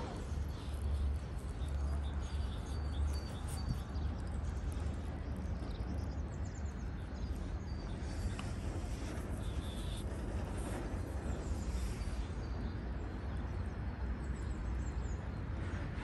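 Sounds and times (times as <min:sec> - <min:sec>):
steady low rumble: 0:00.0 - 0:16.0
small birds chirping: 0:00.2 - 0:13.2.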